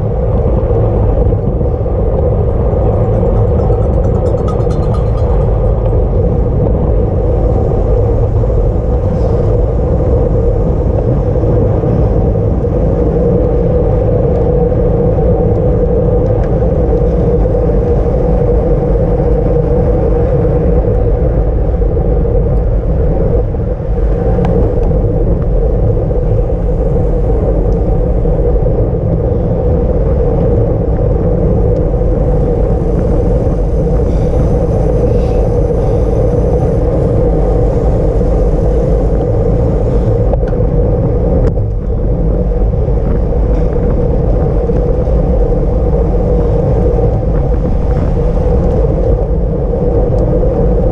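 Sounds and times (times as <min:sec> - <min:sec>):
even hum: 0:00.0 - 0:50.9
tyre and road noise: 0:00.0 - 0:50.9
wind buffeting microphone: 0:00.0 - 0:50.9.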